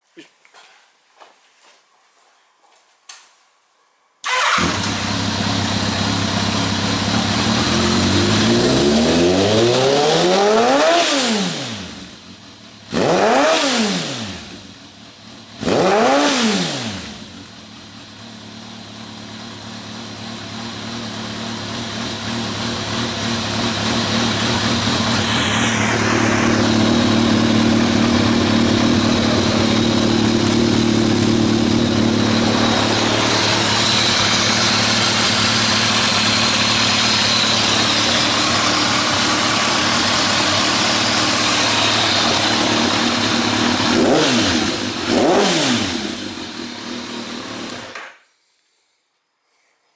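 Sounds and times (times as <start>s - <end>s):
motorcycle engine idling and revving: 4.3s - 48.0s.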